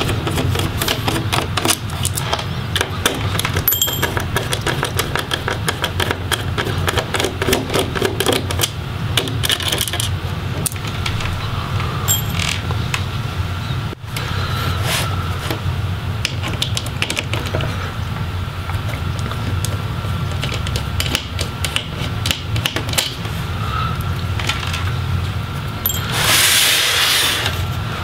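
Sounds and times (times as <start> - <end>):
steady low hum: 1.8 - 9.2, 10.1 - 26.8.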